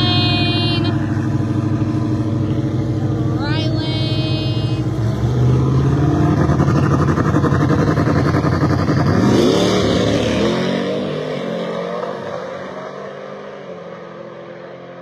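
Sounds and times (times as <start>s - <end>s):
car engines at full throttle: 0.0s - 15.0s.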